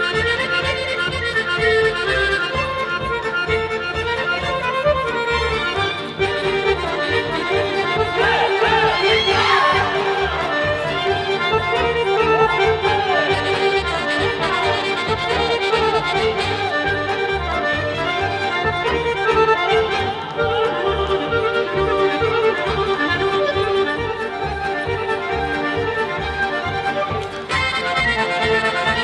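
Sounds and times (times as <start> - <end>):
live folk dance music: 0.0 - 29.0.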